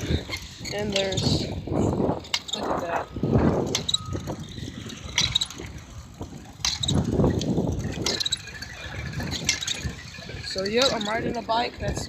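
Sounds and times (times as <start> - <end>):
bicycle rattling on rough dirt: 0.0 - 12.0.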